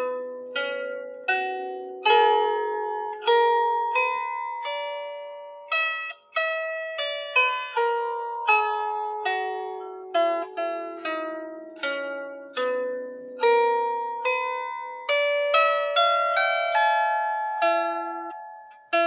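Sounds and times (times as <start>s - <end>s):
plucked lyre harp melody: 0.0s - 19.0s.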